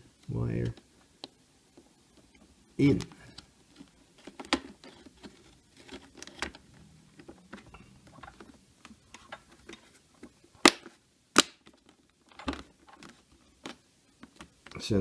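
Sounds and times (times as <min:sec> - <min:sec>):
plastic rubbing and tapping: 0:00.6 - 0:14.8.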